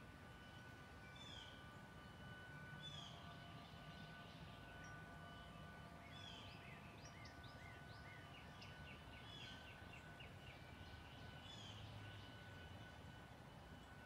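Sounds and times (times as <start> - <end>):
songbirds chirping: 0.5 - 14.0.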